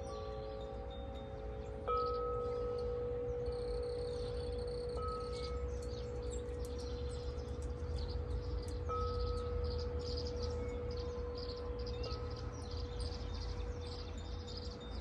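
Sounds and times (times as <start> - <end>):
metal wind chimes ringing: 0.0 - 15.0.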